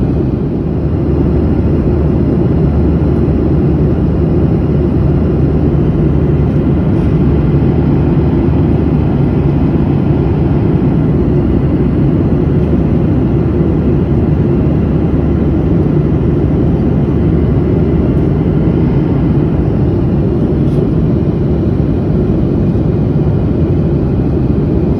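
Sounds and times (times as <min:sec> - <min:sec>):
airplane cabin rumble: 0:00.0 - 0:24.9.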